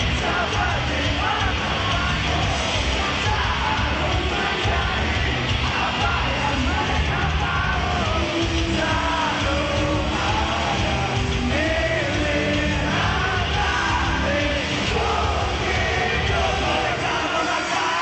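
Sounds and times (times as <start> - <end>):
rock band playing live: 0.0 - 18.0
sung and shouted vocals: 0.0 - 18.0.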